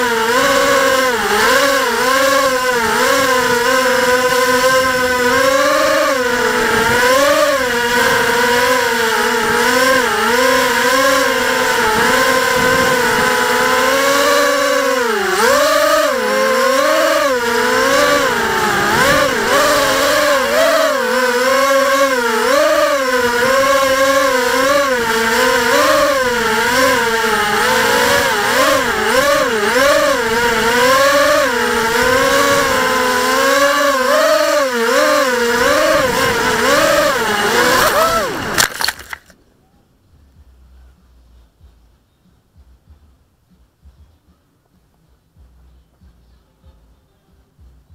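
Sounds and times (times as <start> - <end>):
quadcopter motors buzzing: 0.0 - 39.3.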